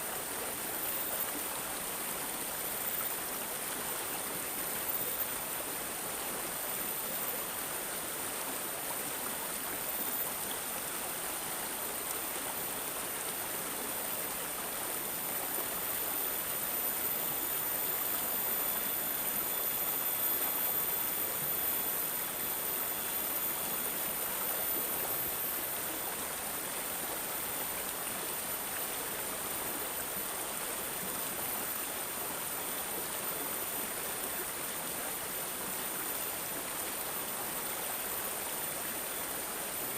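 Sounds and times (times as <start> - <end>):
running water gurgling: 0.0 - 39.9.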